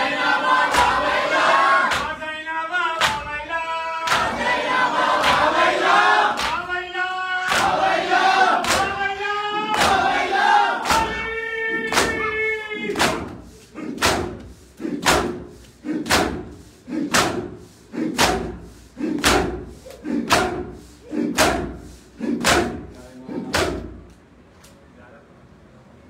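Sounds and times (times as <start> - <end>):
crowd slapping chests: 0.0 - 2.3, 2.9 - 24.2.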